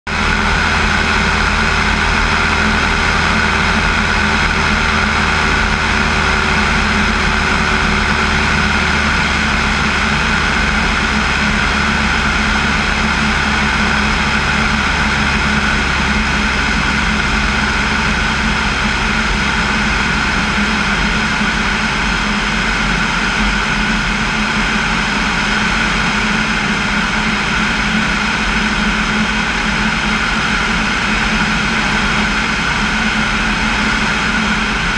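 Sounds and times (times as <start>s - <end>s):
propeller airplane engine drone: 0.0s - 34.9s.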